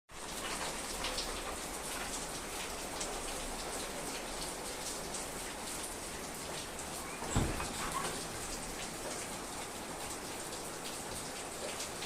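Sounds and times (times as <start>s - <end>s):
steady rain falling: 0.1s - 12.0s.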